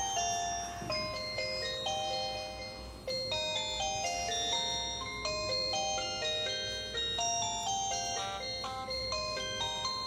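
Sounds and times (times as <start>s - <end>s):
phone ringtone melody: 0.0s - 10.0s.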